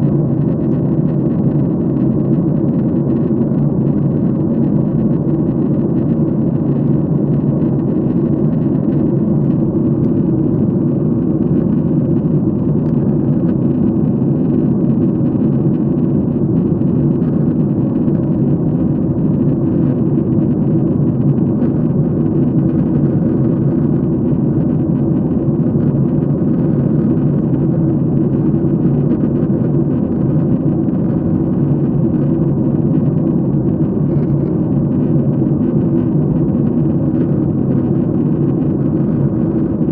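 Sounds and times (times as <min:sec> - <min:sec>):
airliner engines and airflow: 0:00.0 - 0:39.9.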